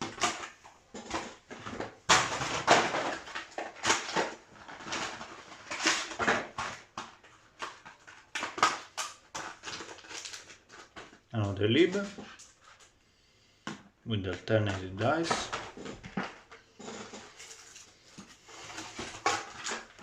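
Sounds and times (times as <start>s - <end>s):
packaging rustling and clicking: 0.0s - 13.0s, 14.3s - 20.0s.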